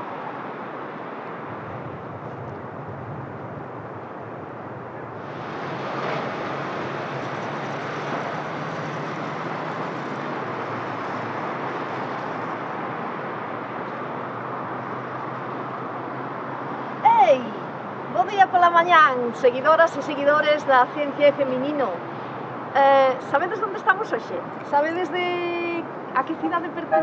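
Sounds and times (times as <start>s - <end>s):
road traffic hiss: 0.0s - 27.0s.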